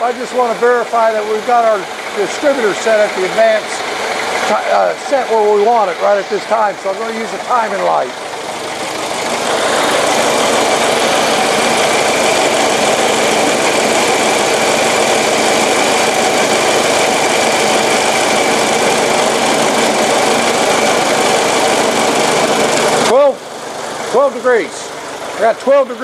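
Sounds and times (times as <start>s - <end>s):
car engine running steadily: 0.0s - 26.0s.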